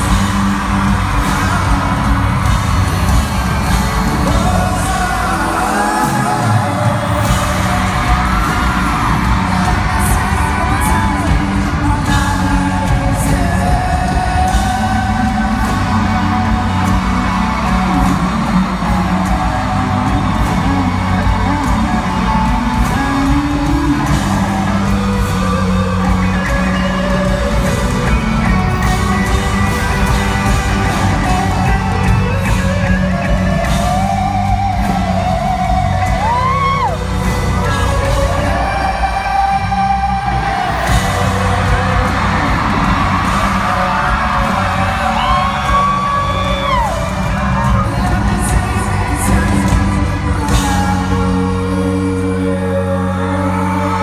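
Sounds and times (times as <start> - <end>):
bass and drum beat: 0.0 - 54.0
live pop-rock band: 0.0 - 54.0
man singing: 3.3 - 28.5, 29.2 - 54.0.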